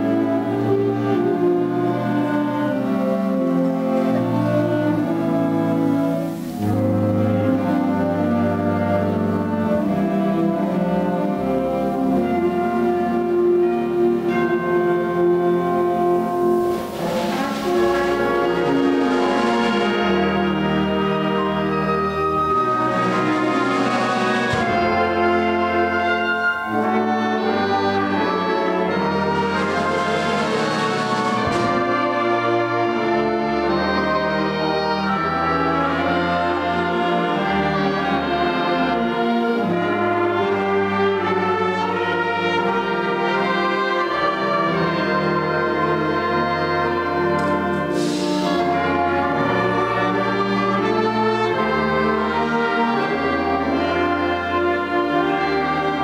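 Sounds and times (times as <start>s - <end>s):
concert band playing: 0.0s - 56.0s.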